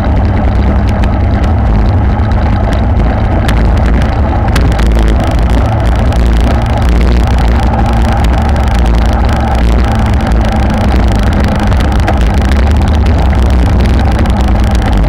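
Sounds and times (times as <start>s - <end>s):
bike tyres rumbling over bricks: 0.0s - 15.0s
wind rushing over microphone: 0.0s - 15.0s.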